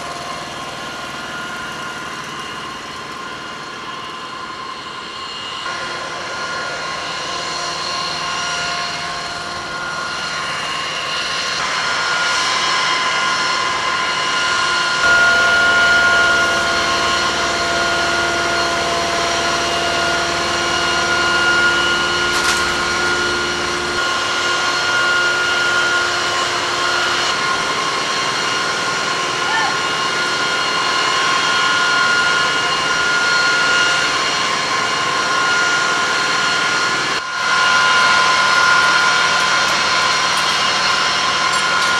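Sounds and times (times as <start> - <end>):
jet turbine whine: 0.0 - 41.9.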